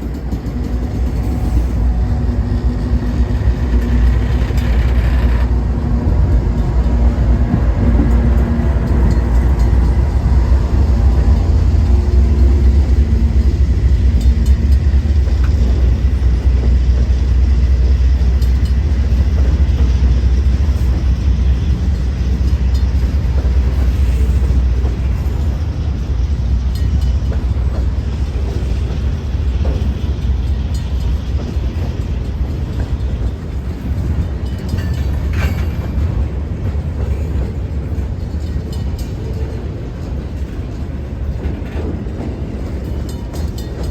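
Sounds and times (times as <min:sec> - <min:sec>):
diesel locomotive engine: 0:00.0 - 0:43.9
rumble of rolling train cars: 0:00.0 - 0:43.9.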